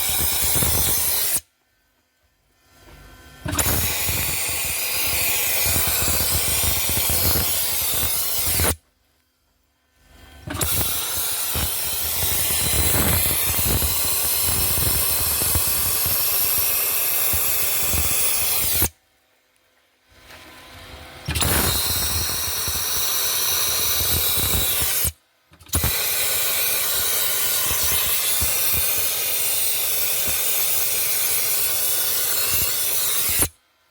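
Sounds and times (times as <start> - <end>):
dry ice blaster hissing: 0.0 - 1.5, 3.4 - 8.8, 10.4 - 19.0, 21.2 - 33.6.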